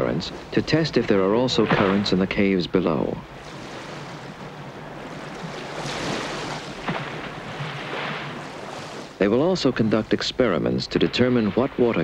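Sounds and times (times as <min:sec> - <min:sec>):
sea water rushing and splashing: 0:00.0 - 0:12.0.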